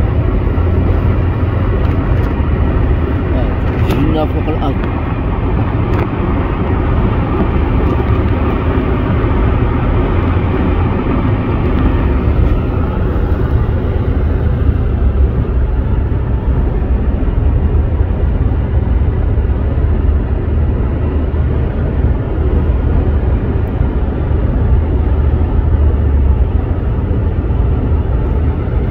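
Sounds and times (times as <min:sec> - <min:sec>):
car road noise at highway speed: 0:00.0 - 0:28.9.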